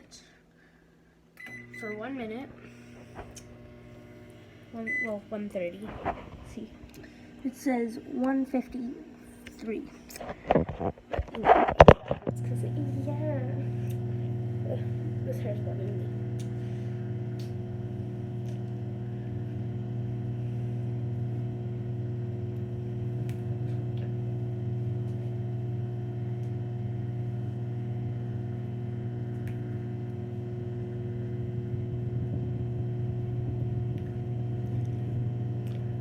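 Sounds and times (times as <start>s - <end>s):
microwave oven humming: 0.0s - 36.0s.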